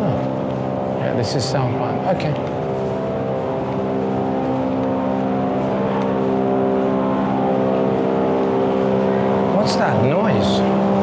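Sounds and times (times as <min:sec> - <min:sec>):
loud machinery drone: 0:00.0 - 0:11.0.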